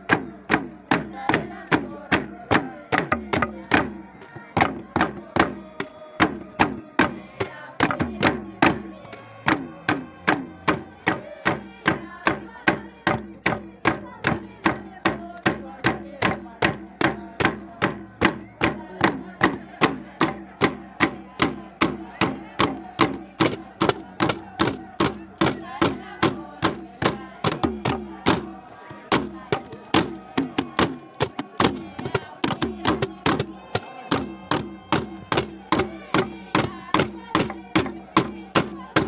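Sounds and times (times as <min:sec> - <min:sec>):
drums beaten in fast rhythm: 0:00.0 - 0:39.0.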